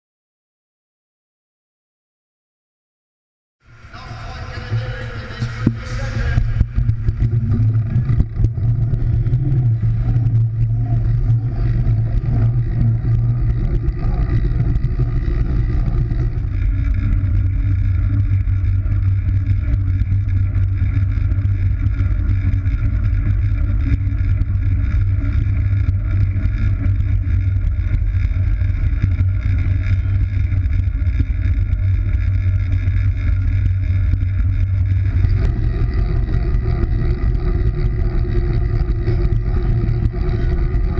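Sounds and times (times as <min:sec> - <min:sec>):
wind rumbling over microphone: 0:04.2 - 0:40.9.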